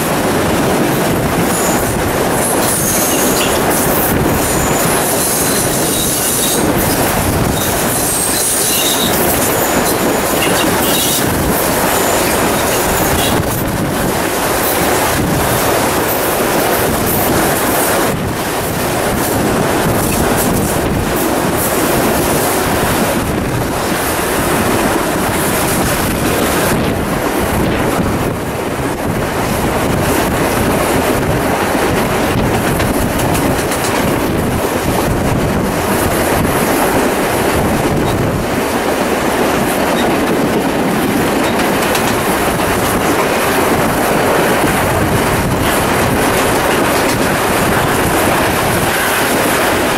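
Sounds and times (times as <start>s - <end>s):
train wheels rolling on rails: 0.0s - 49.9s
wind rushing: 0.0s - 49.9s.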